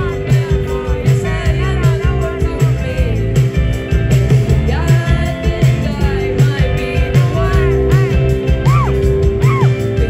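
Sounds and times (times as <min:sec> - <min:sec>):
lead singer singing: 0:00.0 - 0:03.6, 0:04.2 - 0:10.0
live rock band: 0:00.0 - 0:10.0.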